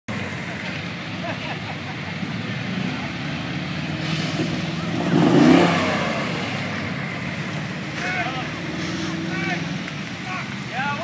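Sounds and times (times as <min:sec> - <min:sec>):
vehicle engine revving: 0:00.1 - 0:11.0.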